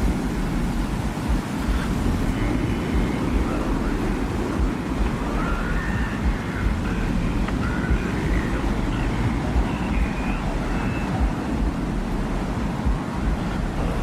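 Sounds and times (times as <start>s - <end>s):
faint whistling tones: 0.0s - 14.0s
low rumble of wind: 0.0s - 14.0s.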